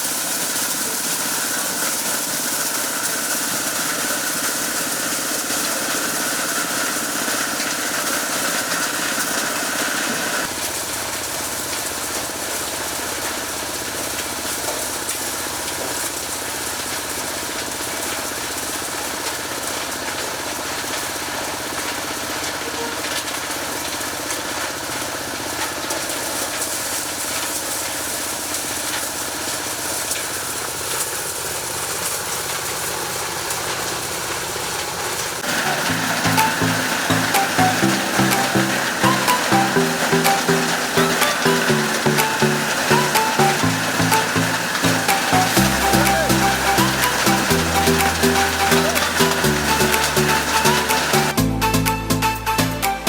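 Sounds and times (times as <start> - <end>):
corn sheller engine running: 0.0 - 53.0.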